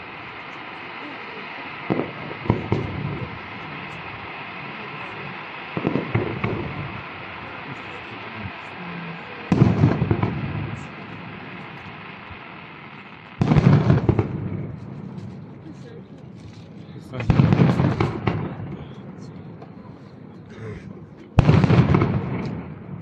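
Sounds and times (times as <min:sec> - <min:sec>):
firework shells booming: 0:00.0 - 0:15.6, 0:17.2 - 0:19.8, 0:21.4 - 0:23.0.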